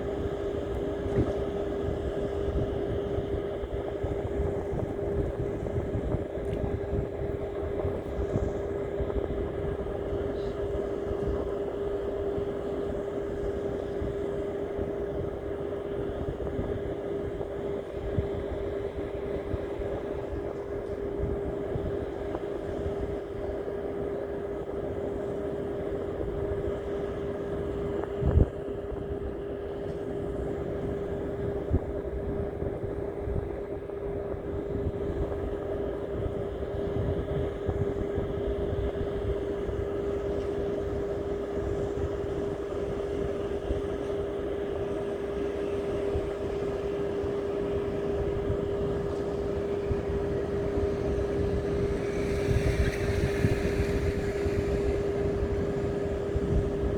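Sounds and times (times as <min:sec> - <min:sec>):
mechanical hum: 0:00.0 - 0:56.9.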